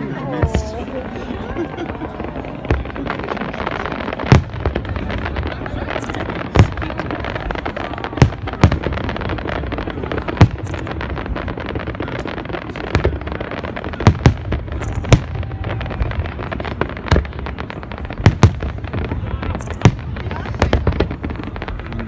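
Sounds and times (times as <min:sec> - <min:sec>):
distant fireworks rumble and crackle: 0:00.0 - 0:22.0
fireworks sharp bangs: 0:00.2 - 0:22.0.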